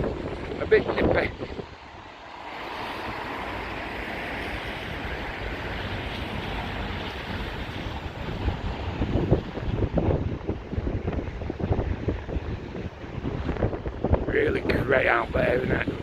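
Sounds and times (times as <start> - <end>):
gusting wind: 0.0 - 16.0
wind buffeting microphone: 0.0 - 16.0.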